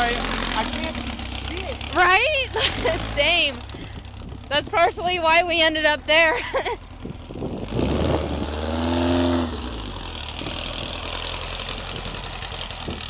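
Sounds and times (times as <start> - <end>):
rushing noise of car driving: 0.0 - 6.2, 6.8 - 13.0
car engine revving: 0.0 - 13.0.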